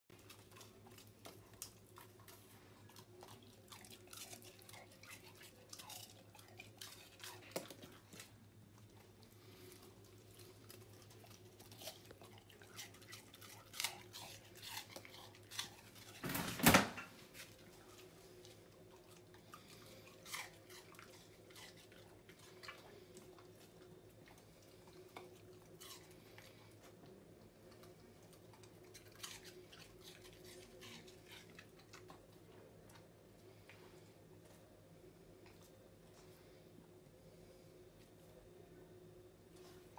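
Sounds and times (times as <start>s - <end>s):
dog chewing and crunching food: 0.1s - 36.7s
faint steady hum: 0.1s - 39.9s.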